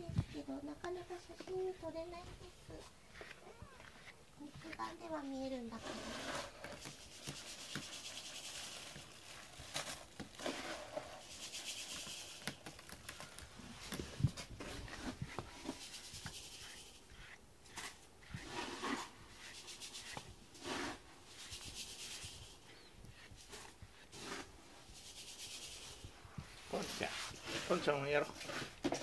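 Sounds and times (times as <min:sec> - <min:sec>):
brush rubbing through fur: 0:00.0 - 0:28.8.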